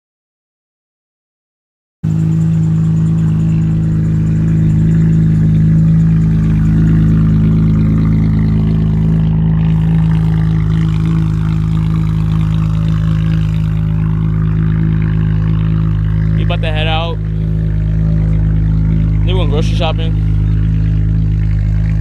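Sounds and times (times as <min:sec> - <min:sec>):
car engine idling: 0:02.0 - 0:22.0.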